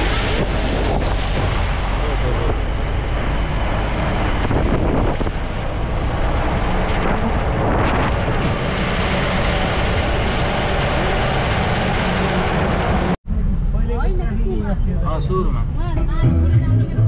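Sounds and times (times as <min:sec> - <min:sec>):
engine and road noise rumble: 0:00.0 - 0:17.0.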